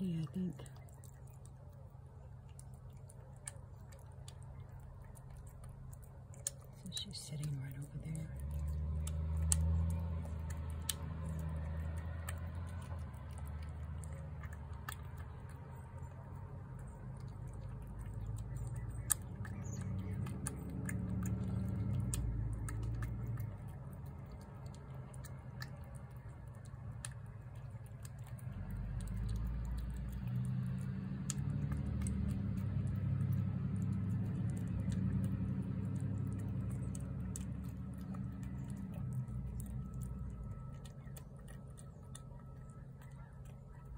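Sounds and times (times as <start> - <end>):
cat chewing wet food: 0.0 - 43.9
low engine rumble: 0.0 - 43.9
low steady hum: 0.0 - 43.9
small sharp clicks: 2.4 - 43.9.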